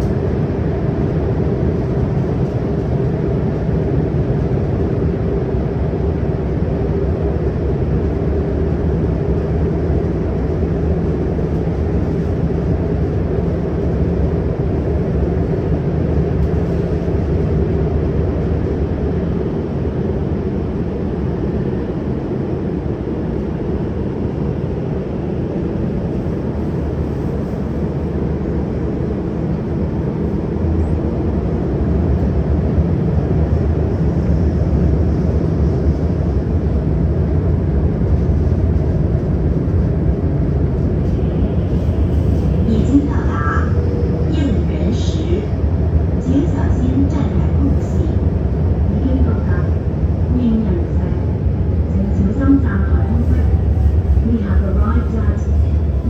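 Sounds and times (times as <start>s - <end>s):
metro train rumbling on rails: 0.0s - 56.0s.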